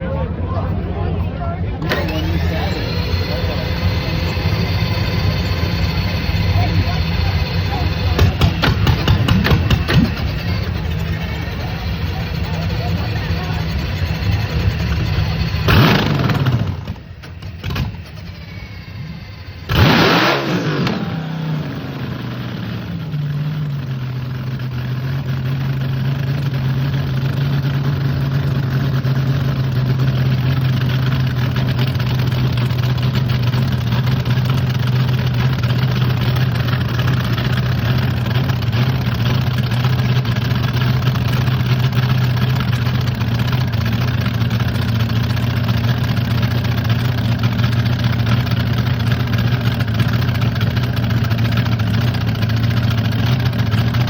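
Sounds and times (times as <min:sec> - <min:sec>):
dragster engine idling loudly: 0:00.0 - 0:54.0.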